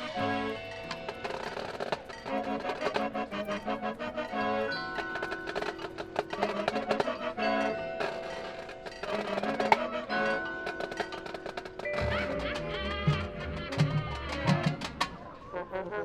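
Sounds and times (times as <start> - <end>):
marching band percussion: 0.0 - 15.3.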